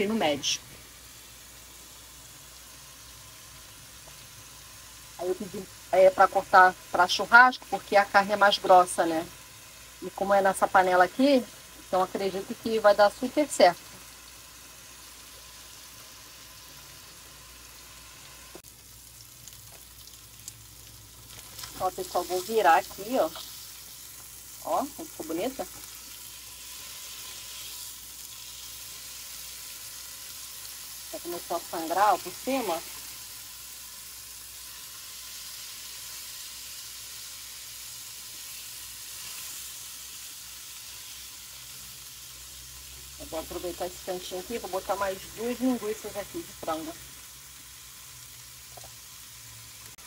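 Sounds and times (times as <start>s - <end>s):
steaks sizzling in oil: 0.0s - 50.0s.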